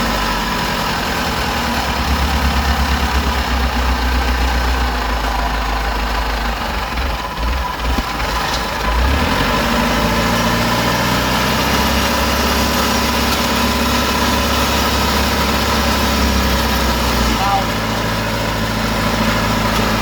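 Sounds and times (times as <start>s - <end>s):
combine harvester diesel engine running: 0.0s - 20.0s.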